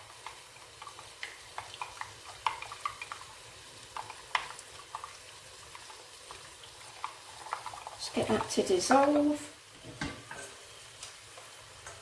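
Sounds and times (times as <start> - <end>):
soft sizzling hiss: 0.0 - 12.0.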